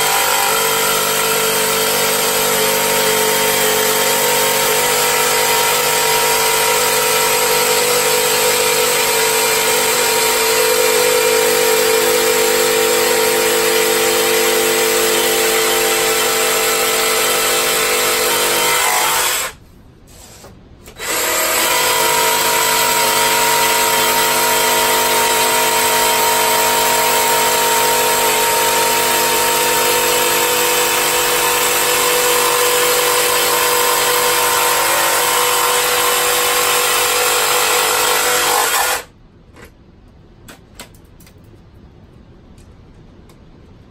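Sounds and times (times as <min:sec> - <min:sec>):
jigsaw cutting pipe: 0:00.0 - 0:19.6, 0:20.9 - 0:39.1.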